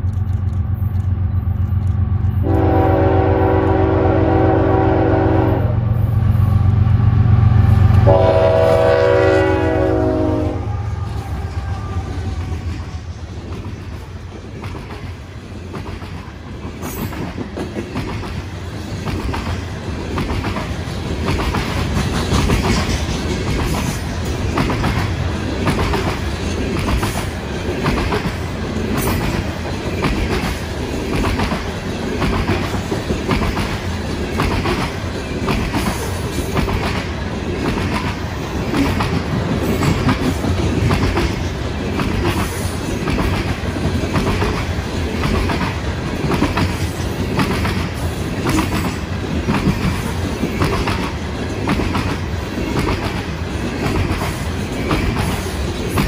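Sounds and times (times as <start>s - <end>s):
train wheels clicking: 0.0s - 5.2s, 11.0s - 56.0s
freight train rumble: 0.0s - 56.0s.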